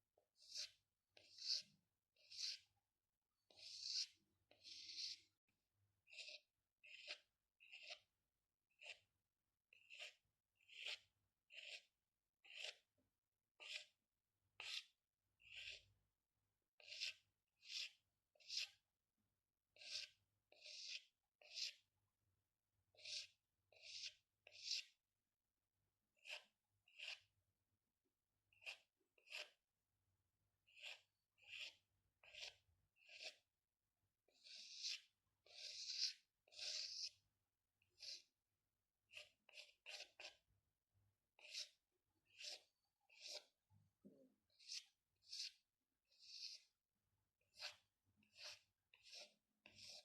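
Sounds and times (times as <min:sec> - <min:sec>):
drawing tool scratching paper: 0:00.2 - 0:25.3, 0:25.9 - 0:29.9, 0:30.5 - 0:50.0.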